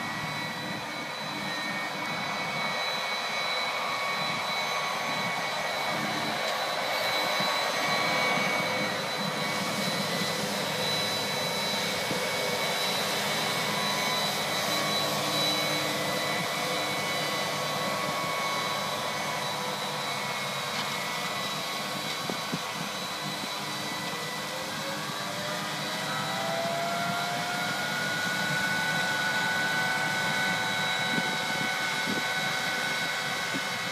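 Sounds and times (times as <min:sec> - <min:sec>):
high whines: 0:00.0 - 0:33.9.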